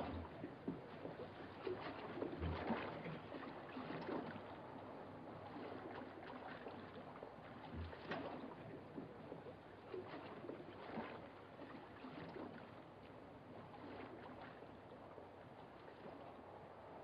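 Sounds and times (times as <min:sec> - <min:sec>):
faint lapping water: 0:00.0 - 0:17.0.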